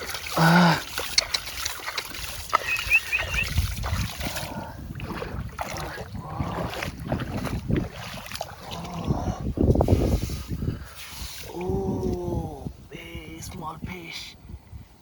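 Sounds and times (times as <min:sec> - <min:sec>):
muddy water sloshing: 0:00.0 - 0:12.3
wind rumbling on microphone: 0:00.0 - 0:15.0.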